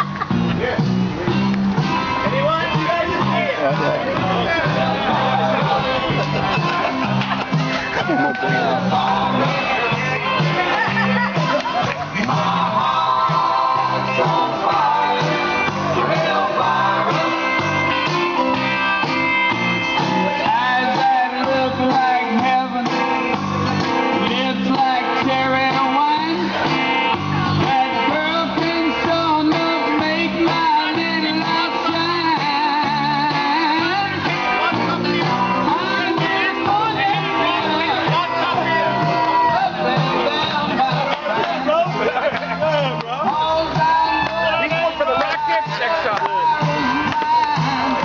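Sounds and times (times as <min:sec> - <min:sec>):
rock song with singer and guitars: 0:00.0 - 0:48.0.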